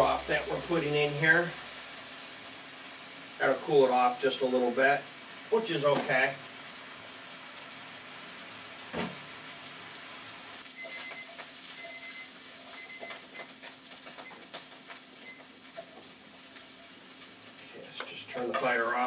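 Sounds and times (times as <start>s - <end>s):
vegetables sizzling in a skillet: 0.0s - 19.0s.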